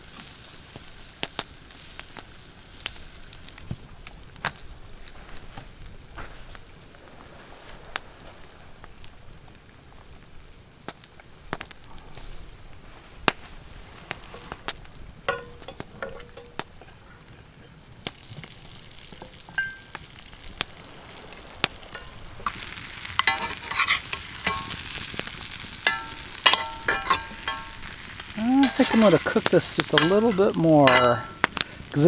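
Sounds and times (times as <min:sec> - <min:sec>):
fire crackling and popping: 0:00.0 - 0:32.0
food sizzling over campfire: 0:00.0 - 0:32.0.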